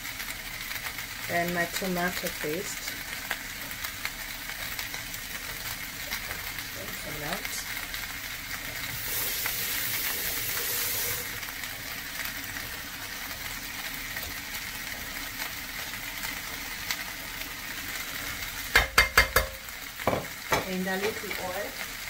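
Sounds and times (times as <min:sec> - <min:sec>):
tripe sizzling in oiled pan: 0:00.0 - 0:22.0.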